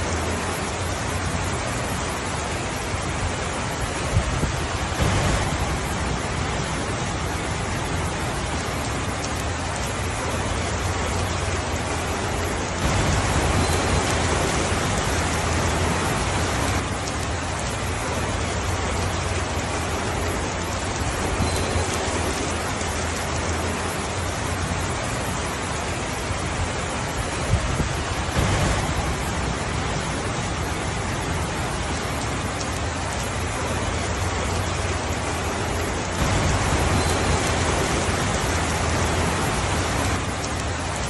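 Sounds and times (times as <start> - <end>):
steady rainfall: 0.0 - 41.0.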